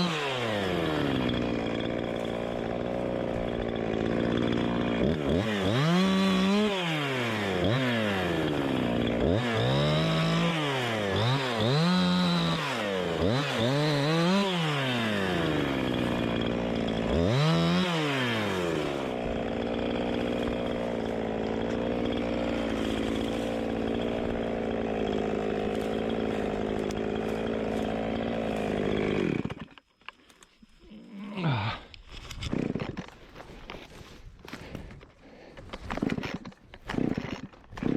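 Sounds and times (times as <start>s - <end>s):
chainsaw revving and idling: 0.0s - 29.8s, 30.8s - 37.9s.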